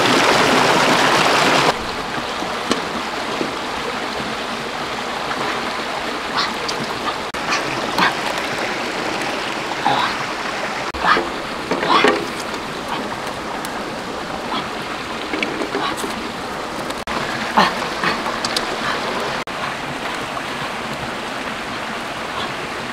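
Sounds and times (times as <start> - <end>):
stream flowing: 0.0 - 22.9.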